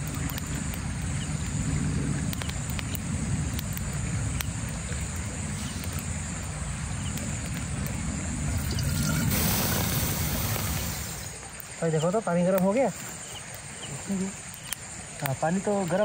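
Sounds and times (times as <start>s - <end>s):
campfire crackles: 0.0s - 16.0s
creek running: 0.0s - 16.0s.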